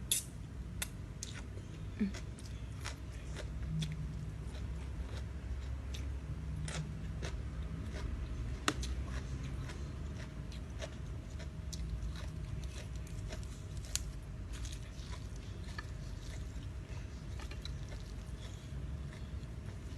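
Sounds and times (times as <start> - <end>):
person chewing crunchy food: 1.2 - 19.9.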